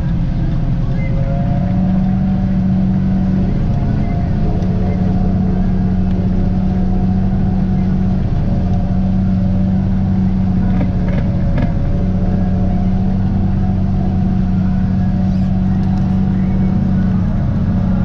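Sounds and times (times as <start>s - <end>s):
tractor engine droning under load: 0.0s - 18.0s.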